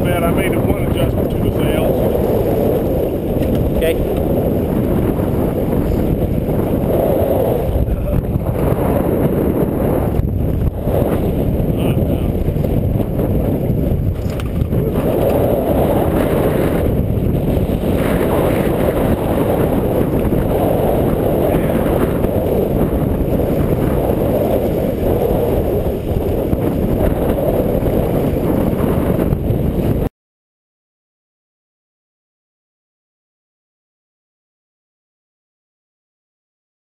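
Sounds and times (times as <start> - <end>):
wind buffeting microphone: 0.0 - 30.1.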